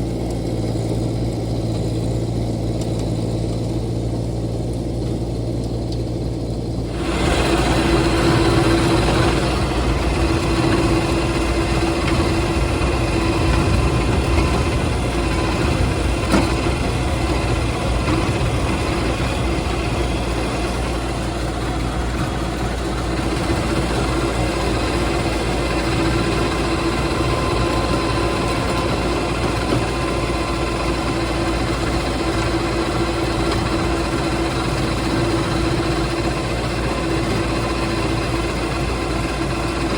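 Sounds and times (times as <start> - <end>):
diesel tractor running under load: 0.0 - 39.9
rototiller churning ground: 0.0 - 39.9.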